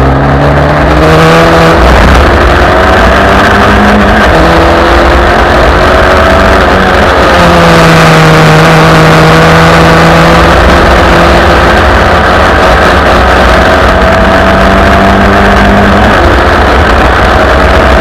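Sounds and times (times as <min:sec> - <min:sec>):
racing car engine running hard: 0:00.0 - 0:18.0.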